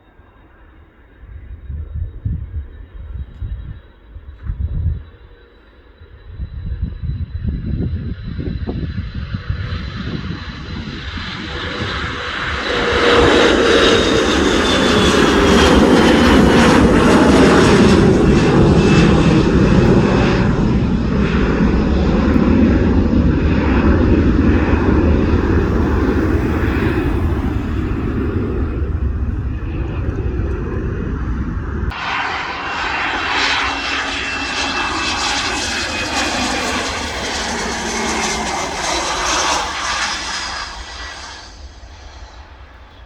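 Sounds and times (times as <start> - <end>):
airliner engines passing: 0.0 - 43.0.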